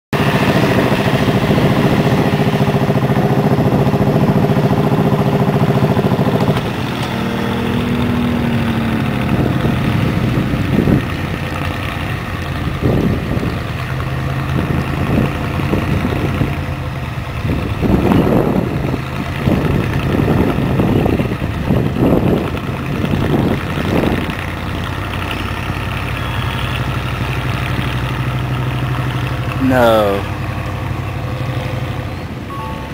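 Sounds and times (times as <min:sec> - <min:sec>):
diesel truck engine revving: 0:00.2 - 0:32.9.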